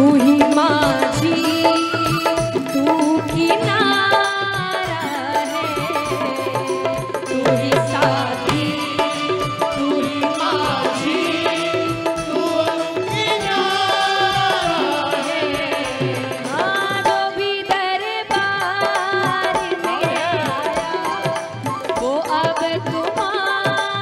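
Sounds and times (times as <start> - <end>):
steady drum beat: 0.0 - 24.0
woman singing devotional song: 0.0 - 24.0.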